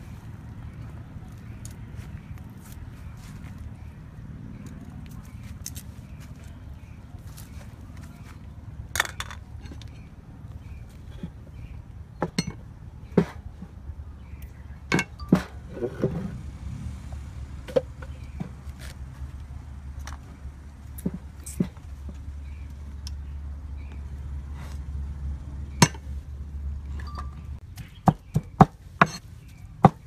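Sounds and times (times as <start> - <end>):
low steady rumble: 0.0 - 27.8.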